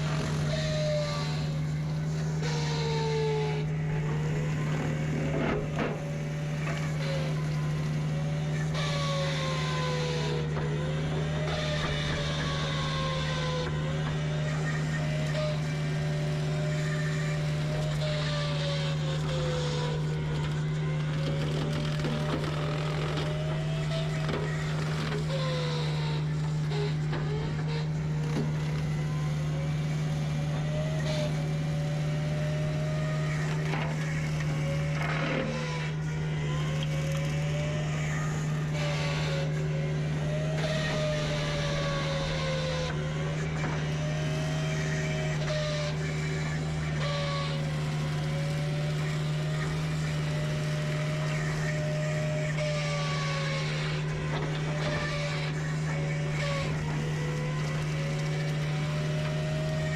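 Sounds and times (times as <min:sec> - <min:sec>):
forestry mulcher droning: 0:00.0 - 0:59.9
high machine whine: 0:00.0 - 0:59.9.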